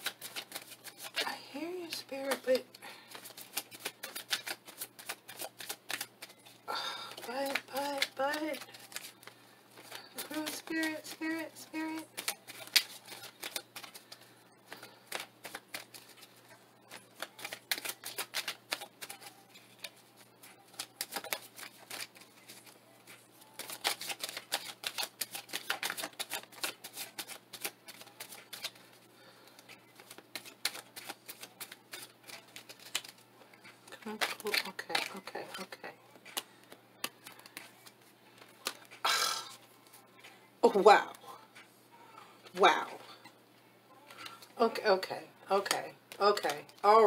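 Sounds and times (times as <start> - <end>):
cards being shuffled: 0.0 - 39.0.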